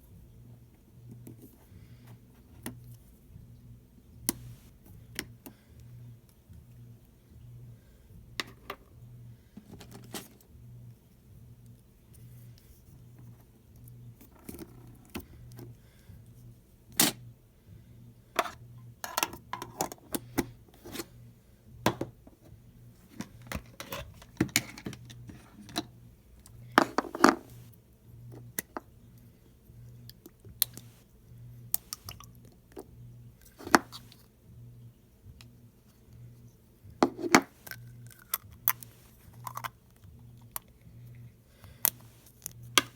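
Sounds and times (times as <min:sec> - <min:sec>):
faint low hum: 0:00.0 - 0:42.9.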